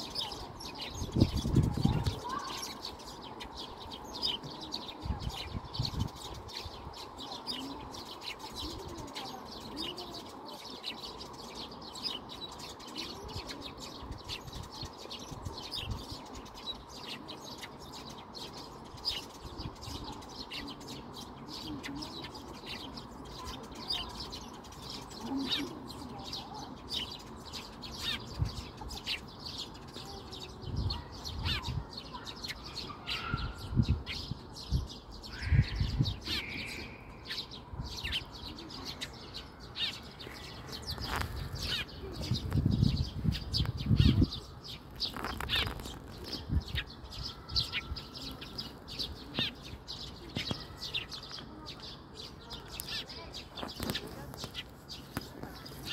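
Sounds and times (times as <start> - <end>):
birds chirping and twittering: 0.0 - 55.9.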